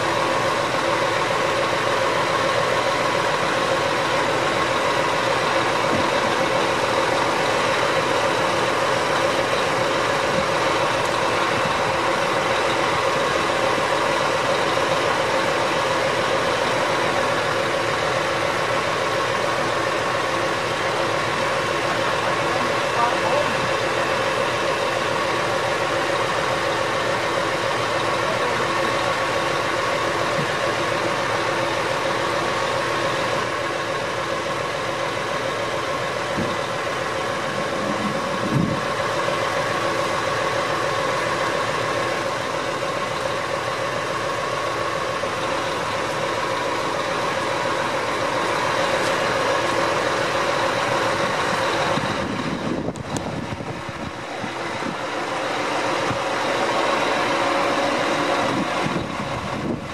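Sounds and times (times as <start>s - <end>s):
crane engine running: 0.0s - 59.9s
steady whine: 0.0s - 59.9s.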